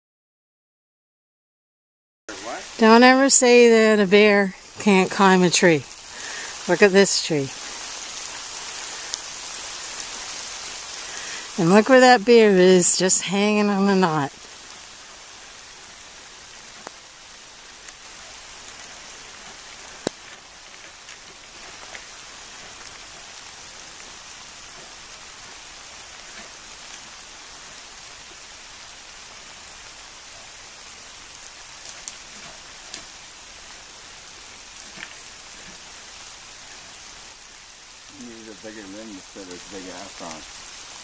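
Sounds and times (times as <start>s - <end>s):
sharp taps of raindrops: 2.3s - 41.0s
steady rain falling: 2.3s - 41.0s.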